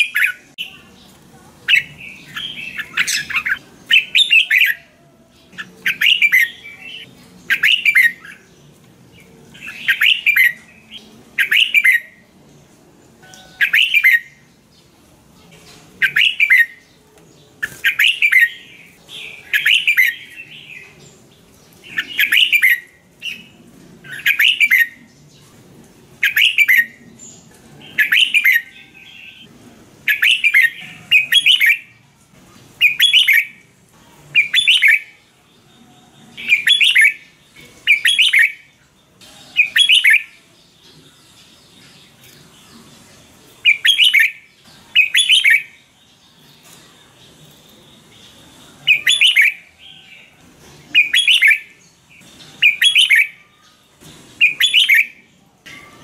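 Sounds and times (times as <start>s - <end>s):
bulbul singing: 0.0s - 14.9s, 15.5s - 25.6s, 26.2s - 32.0s, 32.8s - 56.0s.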